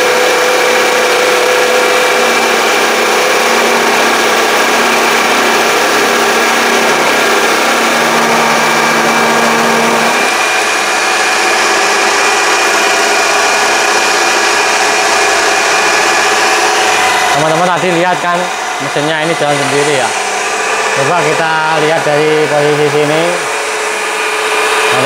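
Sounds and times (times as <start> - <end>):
lathe motor and gear whine: 0.0 - 25.0.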